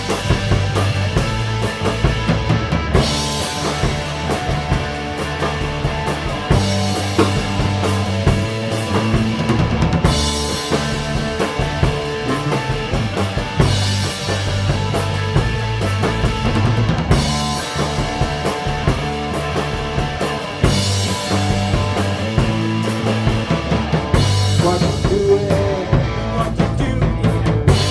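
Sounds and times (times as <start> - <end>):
bass drum and snare: 0.0 - 27.9
punk rock band playing: 0.0 - 27.9.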